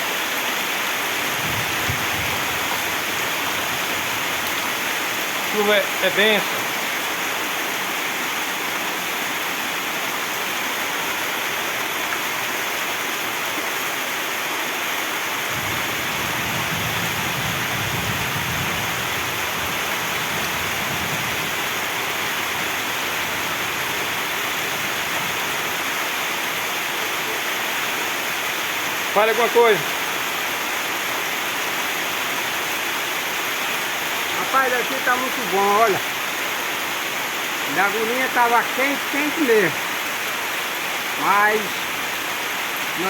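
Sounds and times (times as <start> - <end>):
heavy rain pouring: 0.0 - 43.0.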